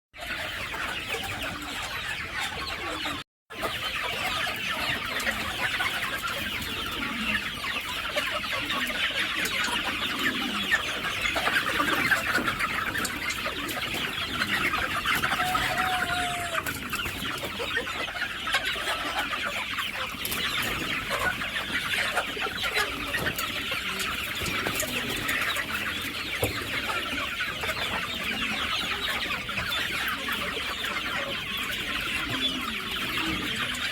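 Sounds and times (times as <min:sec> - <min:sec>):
chickens clucking: 0:00.2 - 0:33.9.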